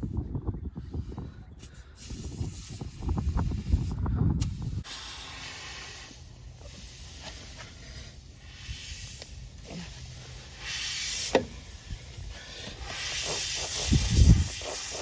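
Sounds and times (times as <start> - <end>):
steady hiss: 1.6 - 15.0.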